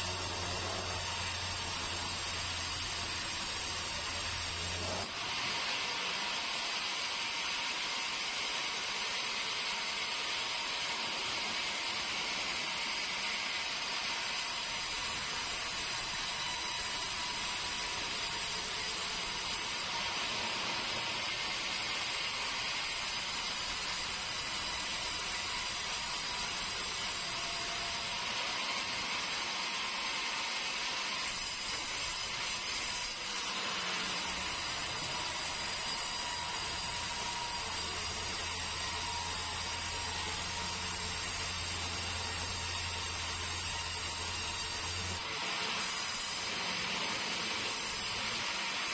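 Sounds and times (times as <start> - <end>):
sawmill saw cutting wood: 0.0 - 48.9.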